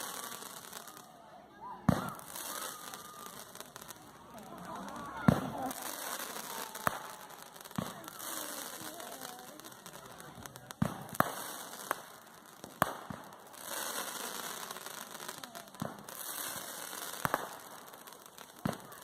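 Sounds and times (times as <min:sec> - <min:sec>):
fireworks bangs: 0:00.0 - 0:01.2, 0:01.8 - 0:19.0
fireworks crackling: 0:00.0 - 0:19.0.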